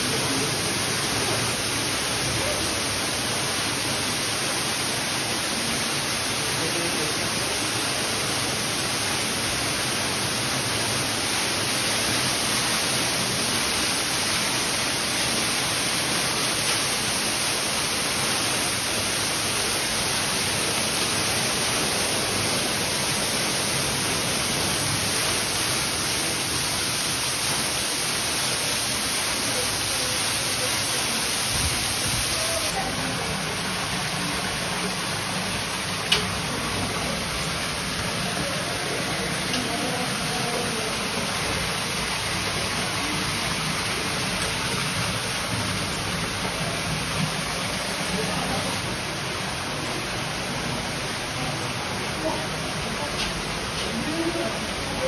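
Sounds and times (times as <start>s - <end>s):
waterfall splashing into pool: 0.0s - 55.0s.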